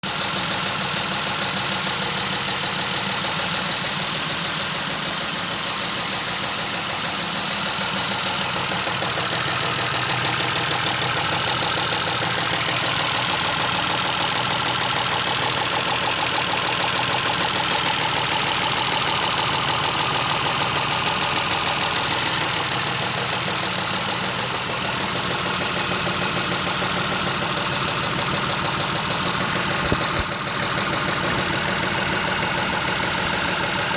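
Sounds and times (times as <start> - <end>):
car engine idling with knocking clatter: 0.0 - 33.9.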